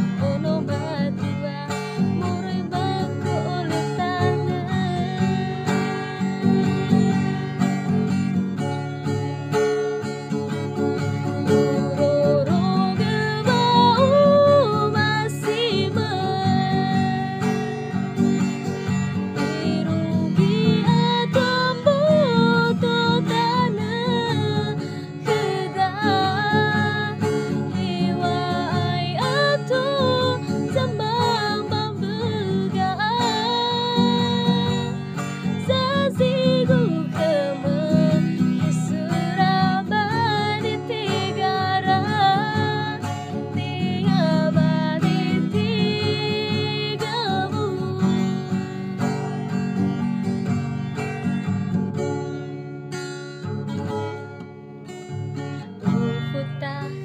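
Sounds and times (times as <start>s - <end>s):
woman singing: 0.0s - 8.6s, 10.7s - 51.0s, 55.4s - 57.0s
acoustic guitar strumming: 0.0s - 57.0s.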